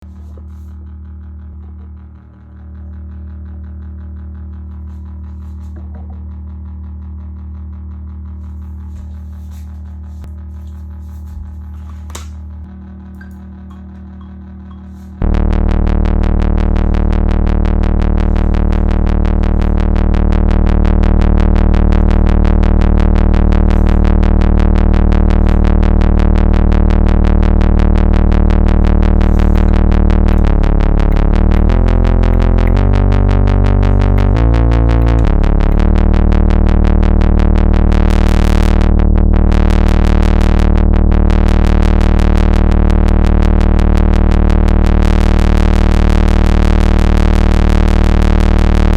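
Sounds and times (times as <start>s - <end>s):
buzzy synthesizer bass note: 0.0s - 48.9s.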